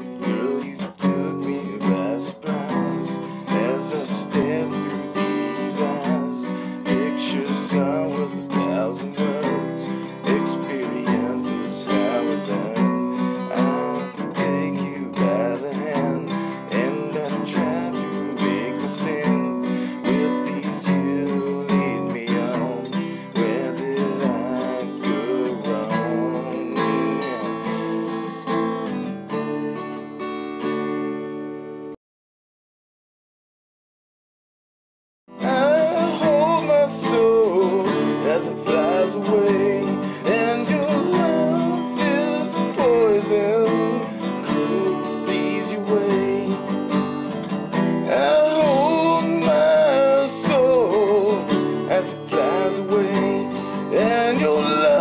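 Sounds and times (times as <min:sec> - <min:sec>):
acoustic guitar strumming: 0:00.0 - 0:32.0, 0:35.3 - 0:55.0.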